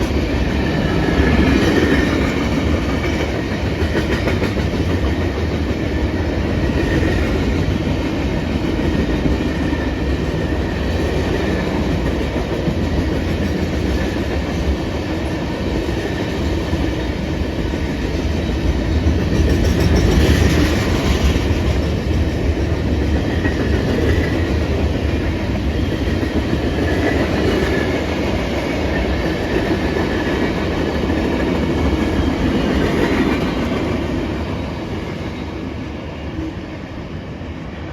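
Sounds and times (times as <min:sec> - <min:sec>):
freight train cars rolling past: 0:00.0 - 0:37.9.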